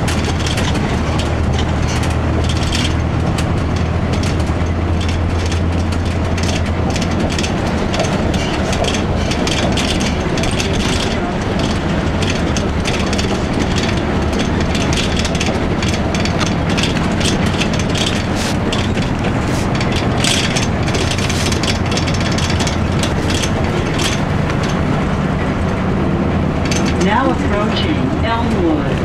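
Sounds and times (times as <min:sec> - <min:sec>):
bus body and seats rattling: 0:00.0 - 0:29.0
bus diesel engine droning: 0:00.0 - 0:29.0.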